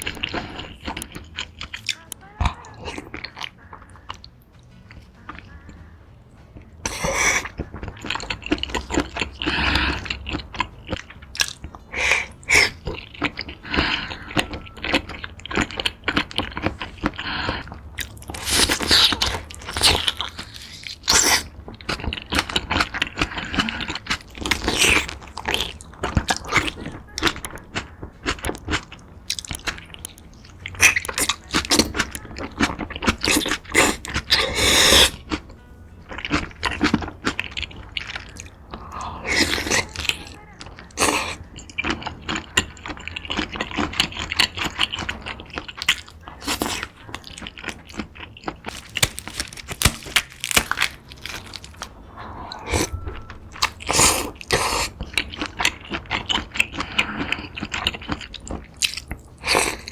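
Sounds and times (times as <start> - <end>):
sharp clicks and wet noises: 0.0 - 5.8, 6.4 - 59.9
chewing and crunching: 0.0 - 59.9.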